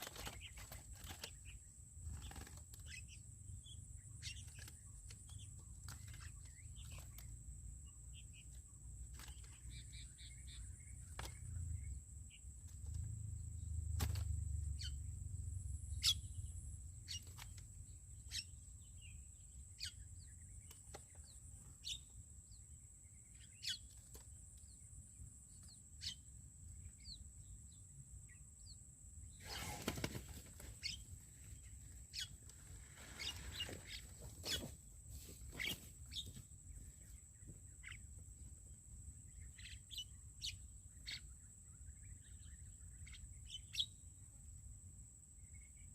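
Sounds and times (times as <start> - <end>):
birds chirping: 0.0 - 44.2.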